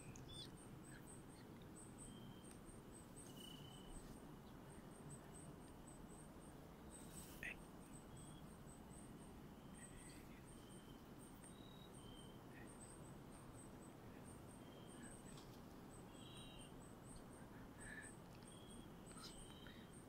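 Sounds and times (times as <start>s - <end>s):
insects and frogs chirping: 0.0s - 20.0s
low hiss: 0.0s - 20.0s.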